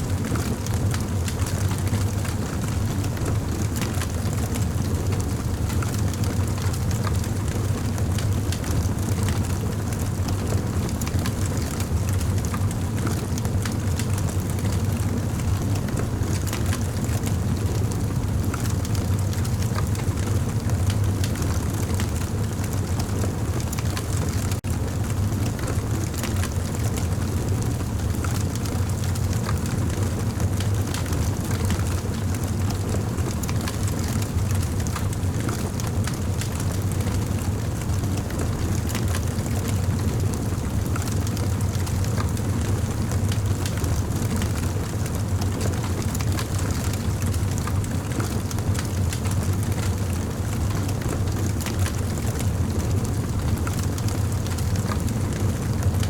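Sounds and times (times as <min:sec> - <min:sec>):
campfire flames rumbling: 0:00.0 - 0:56.0
fire crackling and popping: 0:00.1 - 0:56.0.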